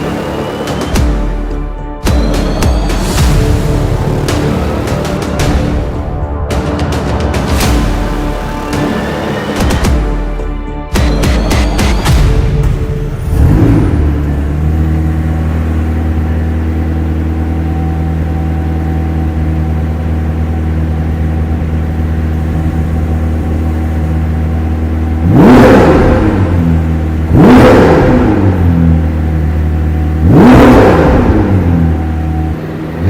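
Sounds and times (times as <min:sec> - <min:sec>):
car engine revving and idling: 0:00.0 - 0:33.0.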